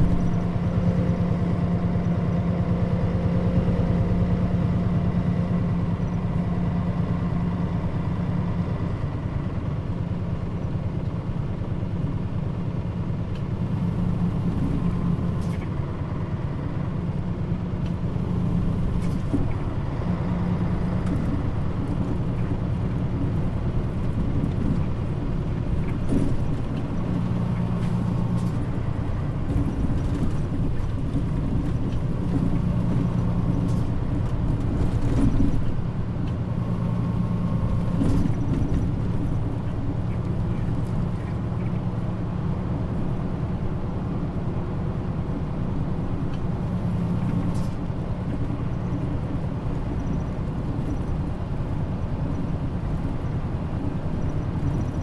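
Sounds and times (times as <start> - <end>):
bus body rattles: 0.0 - 55.0
bus engine drone: 0.0 - 55.0.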